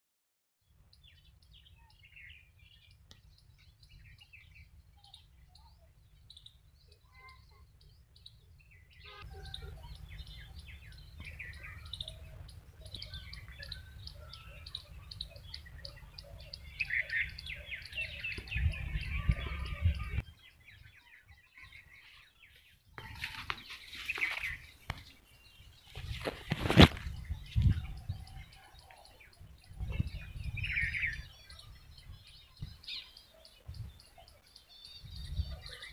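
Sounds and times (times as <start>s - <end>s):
small birds twittering: 0.7s - 35.9s.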